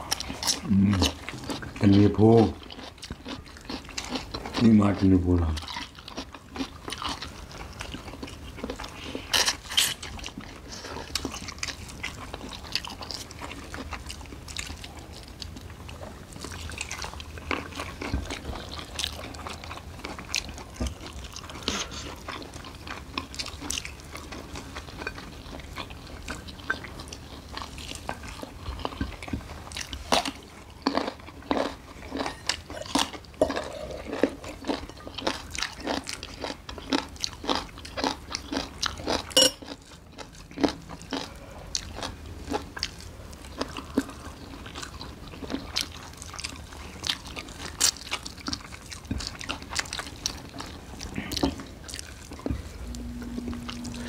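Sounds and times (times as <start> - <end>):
people chewing food: 0.0 - 54.0.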